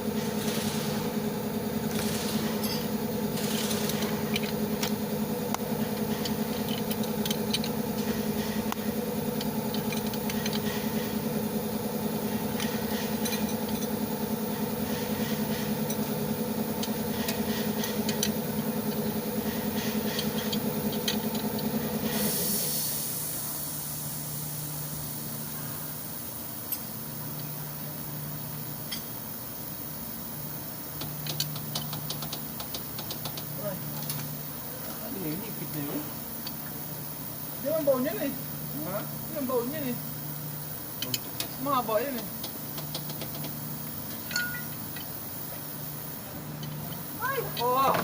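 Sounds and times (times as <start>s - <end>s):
motor humming with rattling clicks: 0.0s - 23.4s, 24.4s - 48.0s.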